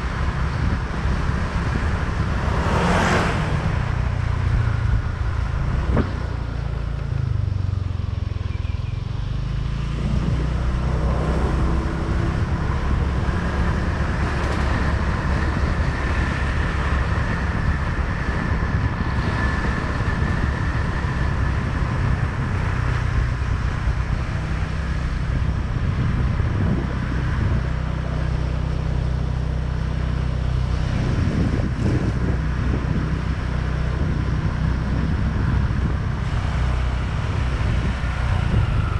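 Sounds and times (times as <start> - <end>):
wind on microphone: 0.0 - 7.7, 9.8 - 38.9.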